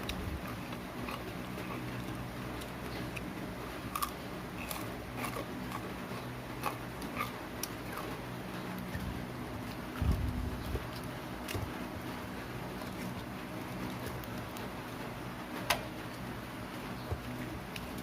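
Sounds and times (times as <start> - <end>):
crunching fried pork skin: 0.0 - 14.8
low steady hum: 0.0 - 18.0.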